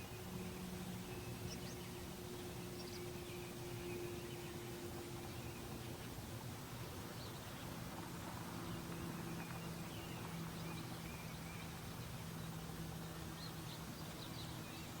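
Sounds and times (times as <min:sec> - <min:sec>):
steady low hum and hiss: 0:00.0 - 0:15.0.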